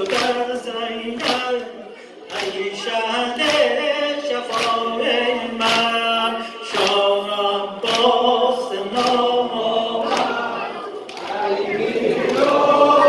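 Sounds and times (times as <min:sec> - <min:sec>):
sharp rhythmic slaps: 0:00.0 - 0:13.0.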